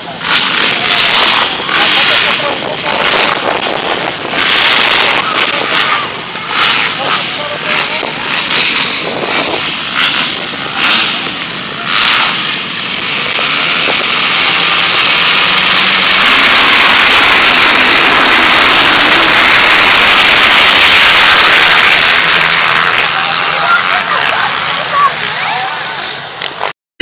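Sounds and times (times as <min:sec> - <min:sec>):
motocross bikes racing past: 0:00.0 - 0:26.7.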